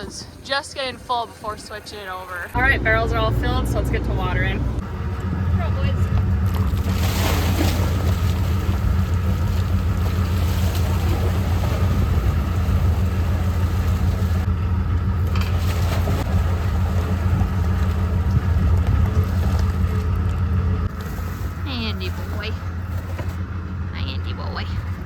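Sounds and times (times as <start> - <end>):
farm vehicle engine humming: 0.0 - 25.0.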